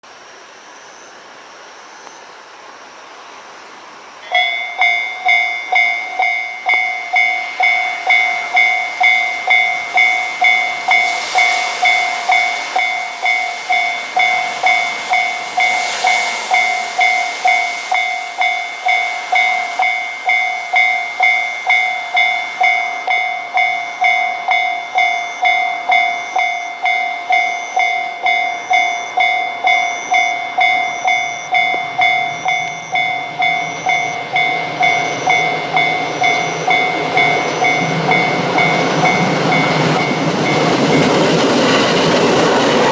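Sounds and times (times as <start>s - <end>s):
rushing noise: 3.7s - 42.9s
level crossing alarm bell ringing: 4.2s - 42.9s.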